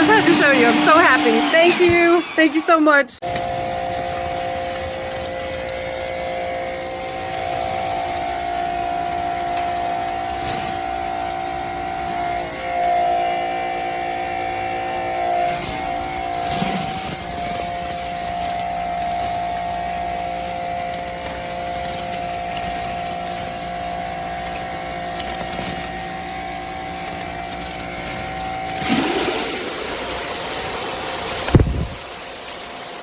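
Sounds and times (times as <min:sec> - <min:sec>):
pressure washer whine: 0:00.0 - 0:33.0.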